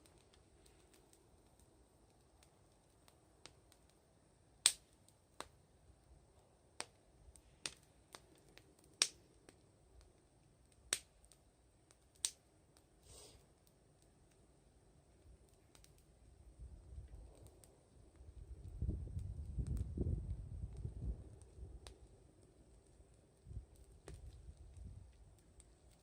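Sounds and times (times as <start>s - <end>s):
soft hiss: 0.0s - 26.0s
wood fire crackling: 0.0s - 26.0s.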